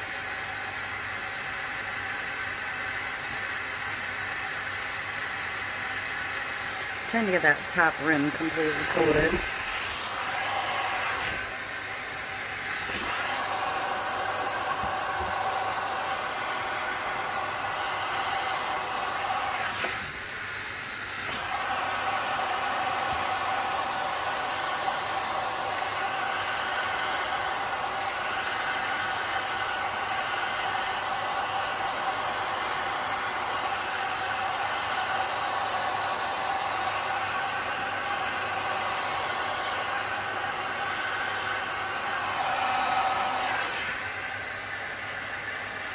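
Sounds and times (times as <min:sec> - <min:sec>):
heat gun blowing: 0:00.1 - 0:45.9.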